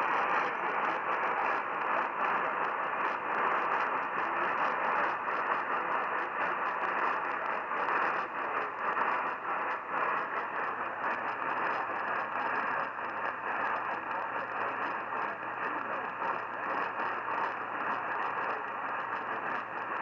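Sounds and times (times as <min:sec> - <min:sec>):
radio static hiss with crackle: 0:00.0 - 0:20.0.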